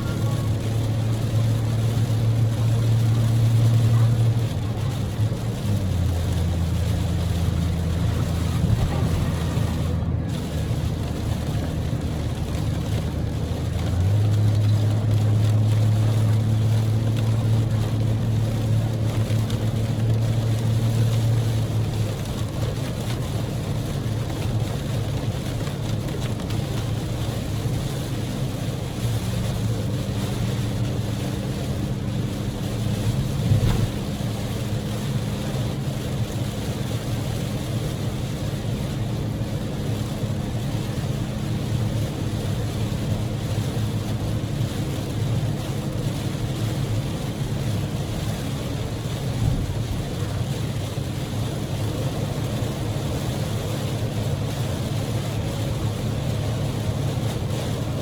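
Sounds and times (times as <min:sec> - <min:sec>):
car engine droning: 0:00.0 - 0:58.0
rain and wet tyres hissing: 0:00.0 - 0:58.0.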